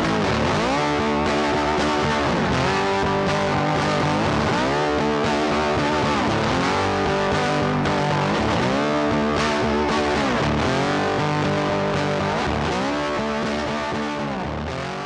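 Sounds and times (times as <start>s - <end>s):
distorted electric guitar bends: 0.0s - 15.0s
rock music: 0.0s - 15.0s.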